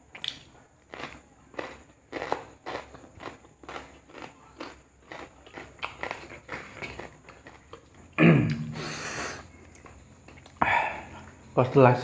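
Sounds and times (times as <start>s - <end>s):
chewing food with crunches: 0.0s - 8.7s, 9.4s - 11.5s.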